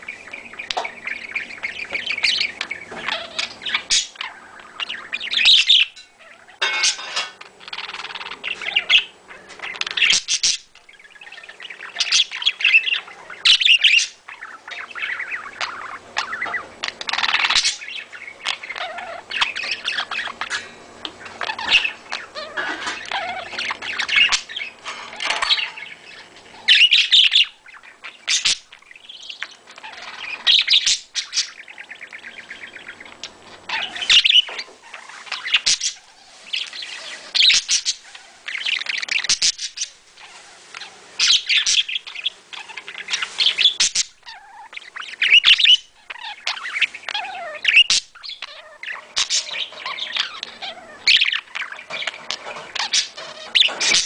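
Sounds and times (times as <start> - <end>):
budgerigars chirping and warbling: 0.0 - 54.0.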